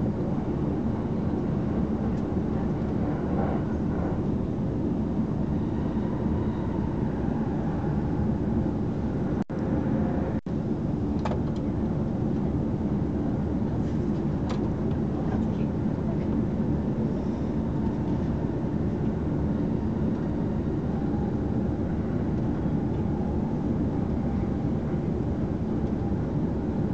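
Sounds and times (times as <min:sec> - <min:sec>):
electric train rumbling: 0:00.0 - 0:26.9.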